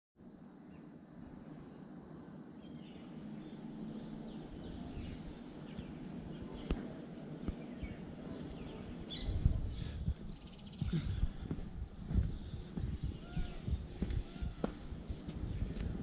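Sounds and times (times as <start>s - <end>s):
low background noise: 0.2s - 16.0s
birds chirping: 0.7s - 16.0s.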